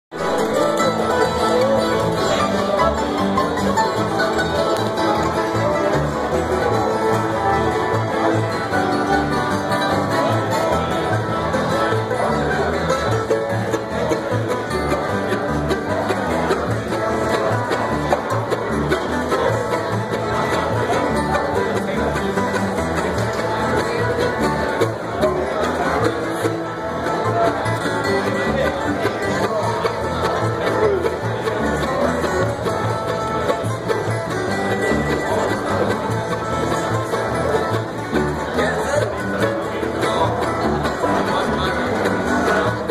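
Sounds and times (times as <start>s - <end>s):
acoustic guitars strumming: 0.1s - 42.9s
picked lead melody: 0.1s - 42.9s
plucked upright bass: 0.1s - 42.9s.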